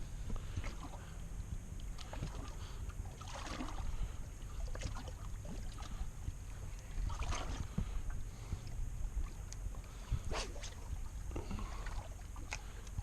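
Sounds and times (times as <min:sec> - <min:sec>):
low wind rumble: 0:00.0 - 0:13.0
waves lapping against boat hull: 0:00.0 - 0:13.0
water splashes: 0:01.8 - 0:13.0.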